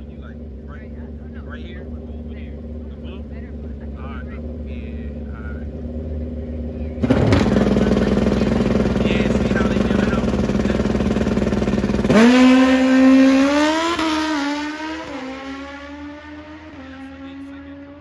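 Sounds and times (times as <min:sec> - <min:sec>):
sport bike engine revving: 0:00.0 - 0:18.0.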